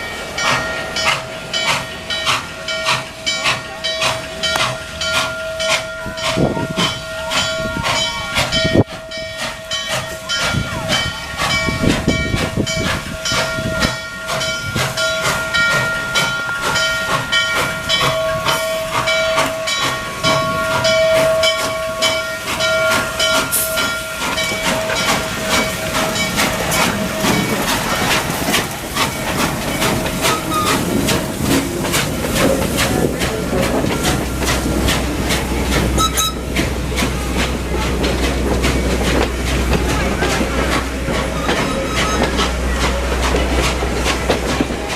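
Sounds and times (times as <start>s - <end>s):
locomotive bell ringing: 0.0s - 44.9s
steam hiss: 0.0s - 44.9s
train rumbling past: 0.0s - 44.9s.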